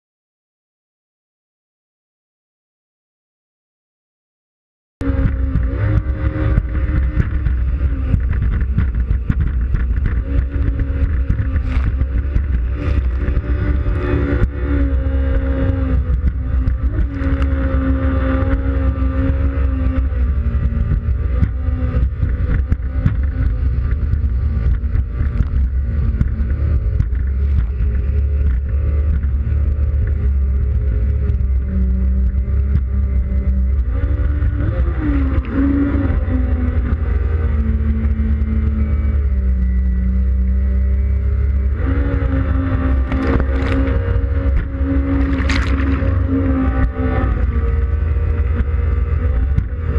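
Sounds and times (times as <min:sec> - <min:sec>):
jet ski engine running: 0:05.0 - 0:49.9
wind buffeting microphone: 0:05.0 - 0:49.9.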